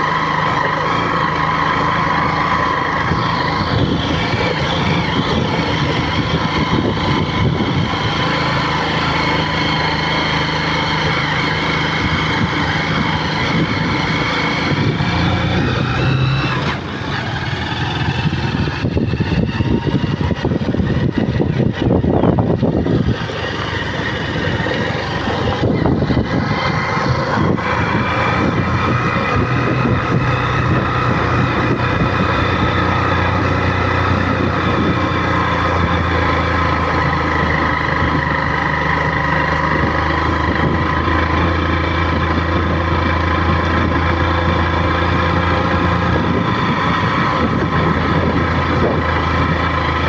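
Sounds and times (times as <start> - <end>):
vehicle engine running: 0.0 - 50.0
vehicle rough jolts: 0.0 - 50.0.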